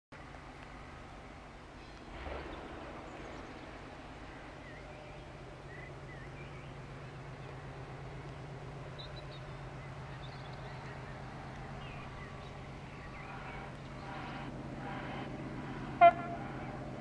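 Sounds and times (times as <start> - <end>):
distant diesel locomotive droning: 0.2 - 17.0
birds chirping faintly: 0.3 - 16.4.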